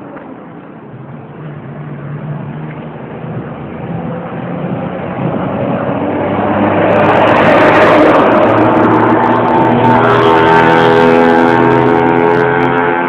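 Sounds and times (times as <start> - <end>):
vehicle engine approaching: 0.0 - 13.0.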